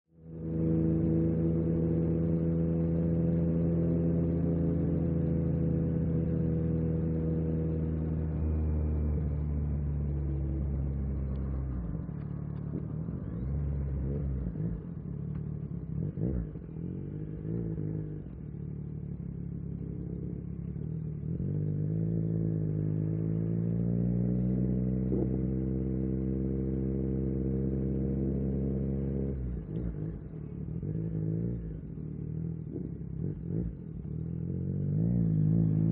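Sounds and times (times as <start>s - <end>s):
motorcycle engine running: 0.2s - 35.9s.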